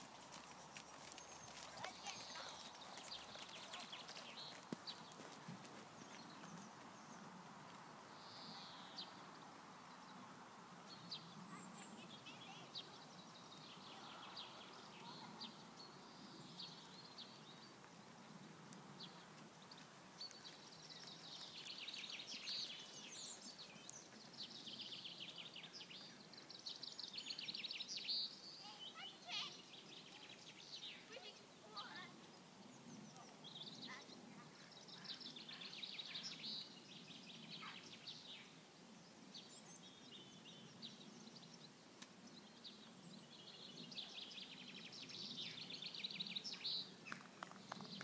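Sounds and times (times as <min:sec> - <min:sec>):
birds singing and trilling: 0:00.0 - 0:10.2, 0:10.9 - 0:48.0
faint outdoor background noise: 0:00.0 - 0:48.0.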